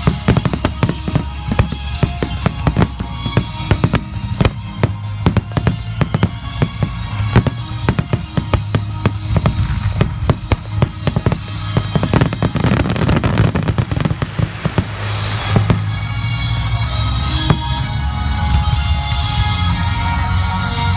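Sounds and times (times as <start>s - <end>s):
fireworks bursts: 0.0s - 19.4s
fireworks crackling: 0.0s - 20.9s
music: 0.0s - 20.9s.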